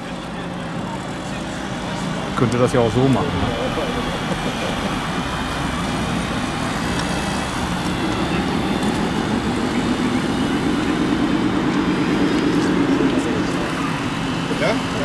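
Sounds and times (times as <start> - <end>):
model truck running: 0.0 - 15.0
low rapidly pulsing hum: 1.5 - 15.0.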